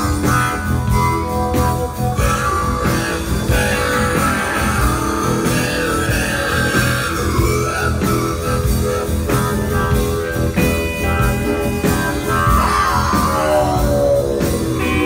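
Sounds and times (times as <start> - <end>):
electric guitar sustained notes: 0.0 - 15.0
live rock band playing: 0.0 - 15.0.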